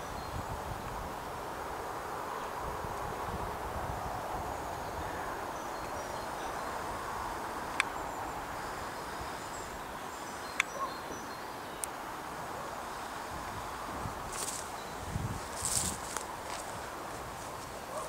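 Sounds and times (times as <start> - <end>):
steady outdoor hiss: 0.0 - 18.0.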